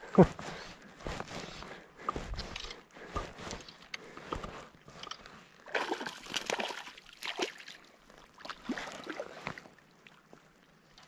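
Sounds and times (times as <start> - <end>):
water splashing and sloshing: 1.2 - 11.0.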